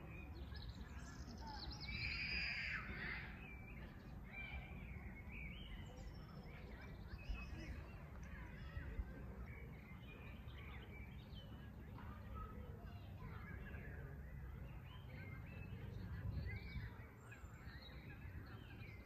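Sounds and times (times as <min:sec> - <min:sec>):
birds calling and chirping: 0:00.0 - 0:19.0.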